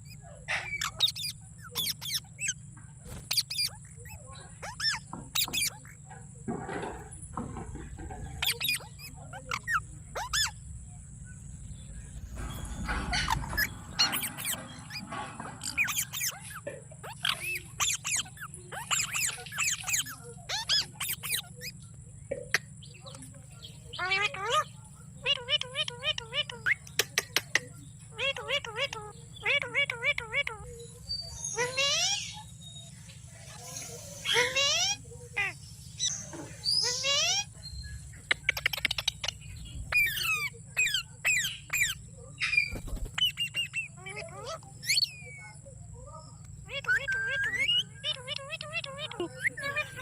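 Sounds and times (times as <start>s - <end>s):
parrot chirps and squawks: 0.0s - 10.9s, 11.7s - 50.0s.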